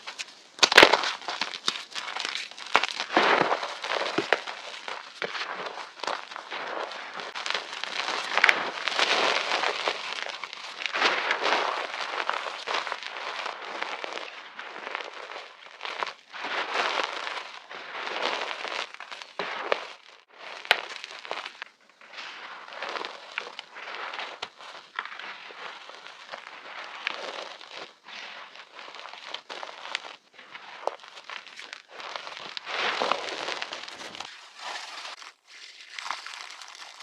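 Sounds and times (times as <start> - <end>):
chalk crunching and crumbling: 0.0 - 37.0.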